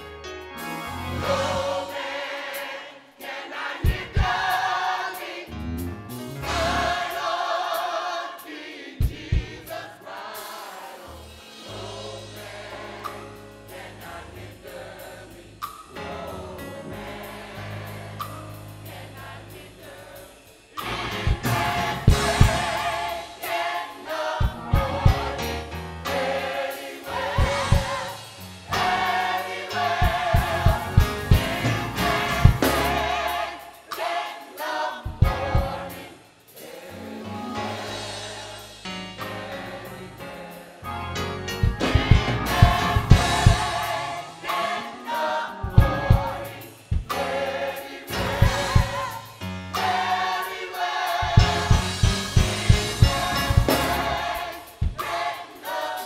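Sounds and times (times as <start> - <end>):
gospel choir singing: 0.0 - 56.0
musical backing with beats: 0.0 - 56.0.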